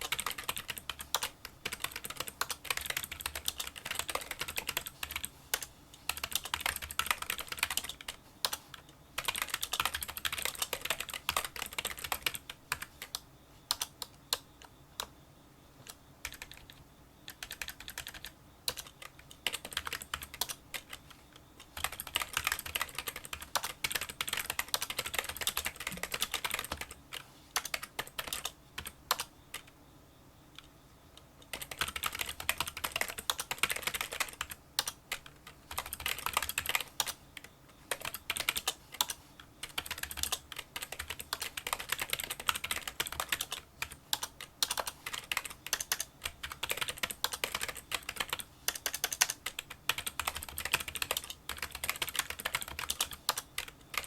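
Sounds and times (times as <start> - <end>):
keyboard typing clicks: 0.0 - 15.1, 15.8 - 21.0, 21.6 - 29.8, 30.5 - 54.0.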